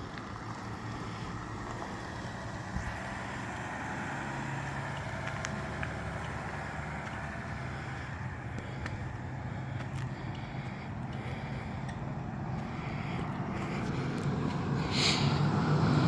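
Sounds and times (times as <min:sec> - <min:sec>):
car engine hum: 0:00.0 - 0:16.0
road and wind noise: 0:00.0 - 0:16.0.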